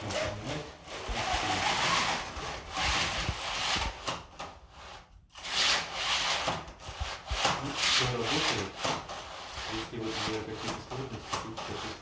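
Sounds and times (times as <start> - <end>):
window blinds swishing: 0.0 - 12.0.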